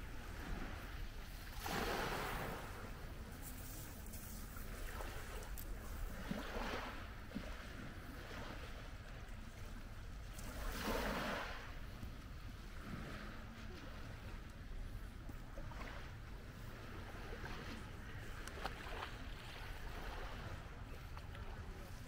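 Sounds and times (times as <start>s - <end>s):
small waves on a pebble shore: 0.0s - 11.8s, 15.4s - 22.0s.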